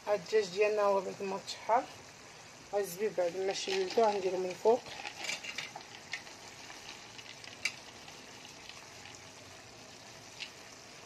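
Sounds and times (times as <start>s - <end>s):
sauce simmering with faint sizzle: 0.0s - 11.0s.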